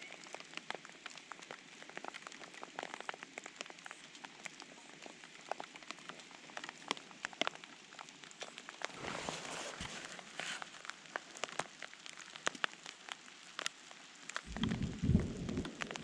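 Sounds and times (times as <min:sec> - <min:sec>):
raindrops pattering: 0:00.0 - 0:16.0.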